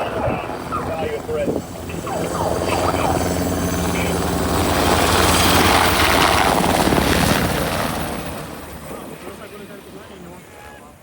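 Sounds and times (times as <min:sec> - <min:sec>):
aircraft flying low overhead: 0:00.0 - 0:11.0.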